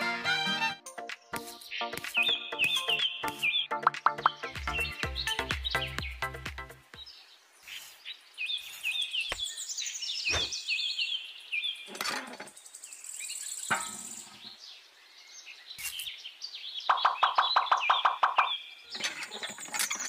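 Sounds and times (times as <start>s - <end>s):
small birds chirping: 1.0s - 20.0s.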